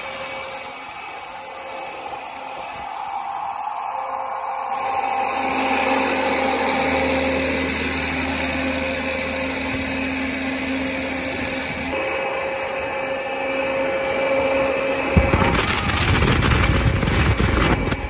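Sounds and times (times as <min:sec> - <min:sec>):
blower fan rushing air: 0:00.0 - 0:18.0
engine humming: 0:00.0 - 0:18.0.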